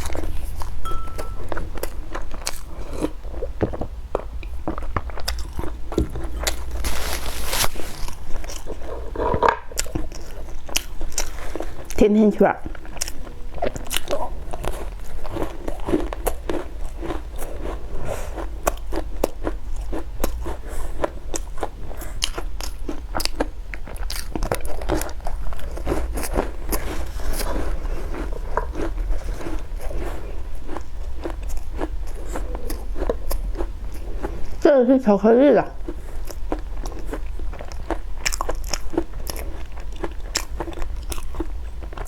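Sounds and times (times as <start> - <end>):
crunchy chewing of doughnut: 0.0 - 34.7, 35.7 - 42.0.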